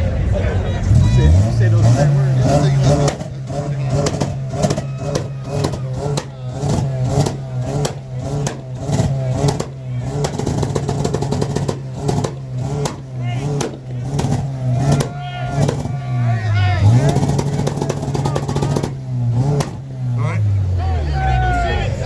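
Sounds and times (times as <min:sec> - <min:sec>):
car engine idling loudly: 0:00.0 - 0:22.0
crowd voices: 0:00.0 - 0:22.0.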